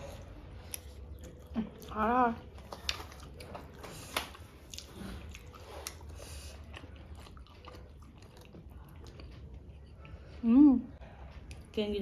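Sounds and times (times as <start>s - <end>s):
person chewing food: 0.0s - 10.4s.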